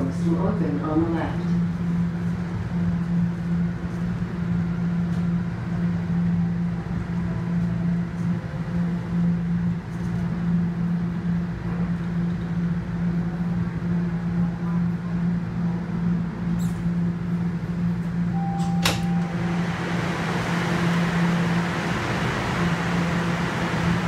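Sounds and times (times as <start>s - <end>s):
rushing train noise: 0.0s - 24.0s
subway train electric hum: 0.0s - 24.0s.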